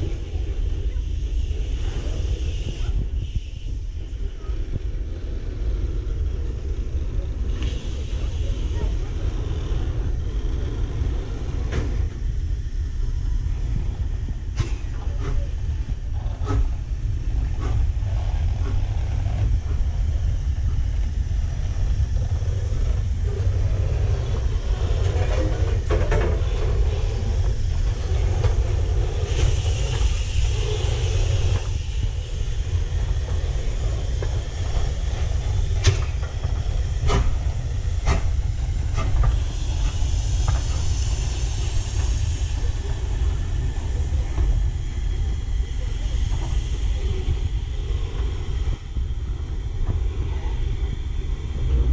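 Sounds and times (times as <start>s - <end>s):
steam hissing: 0.0s - 51.9s
steam train rumbling: 0.0s - 51.9s.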